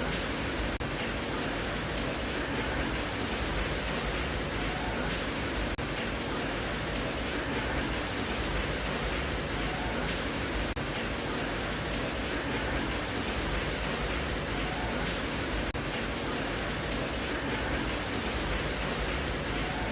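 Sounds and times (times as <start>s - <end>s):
steady rain hiss: 0.0s - 19.9s.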